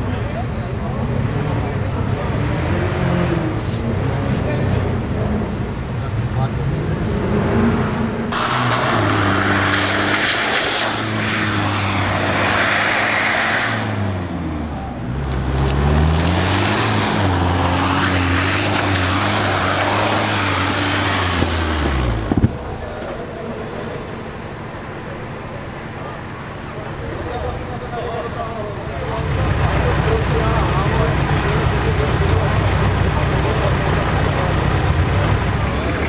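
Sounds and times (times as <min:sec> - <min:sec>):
off-road engine running hard: 0:00.0 - 0:36.0.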